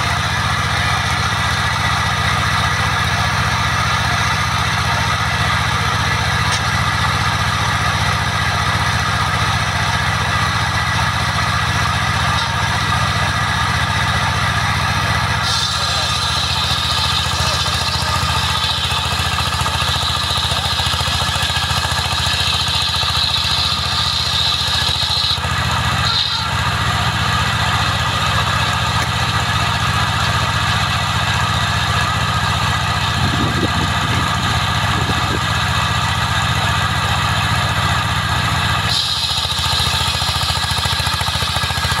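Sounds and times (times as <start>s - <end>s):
sawmill engine running: 0.0s - 42.0s.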